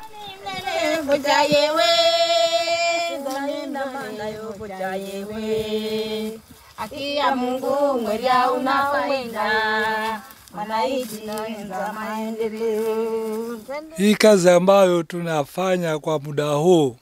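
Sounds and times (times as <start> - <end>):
women singing: 0.0 - 14.0.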